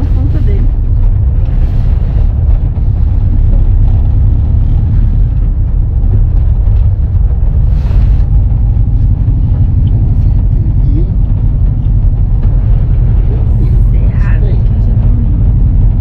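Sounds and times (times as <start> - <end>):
van engine and road rumble: 0.0 - 16.0.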